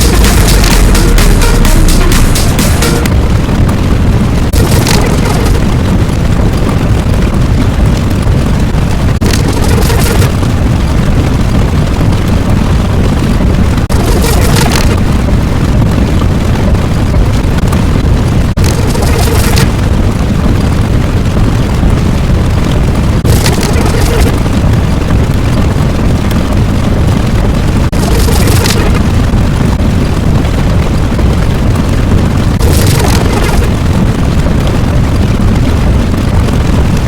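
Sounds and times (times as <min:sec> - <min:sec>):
loud low rumbling: 0:00.0 - 0:37.0.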